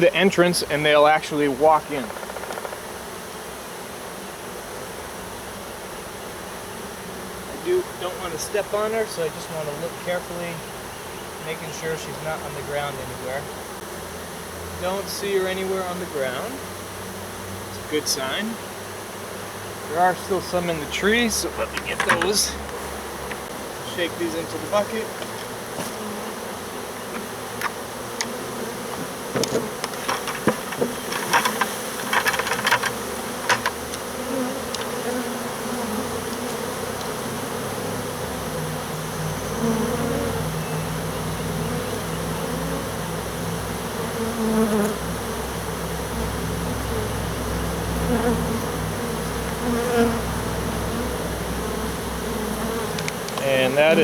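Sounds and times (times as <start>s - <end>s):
bee swarm buzzing: 0.0s - 54.0s.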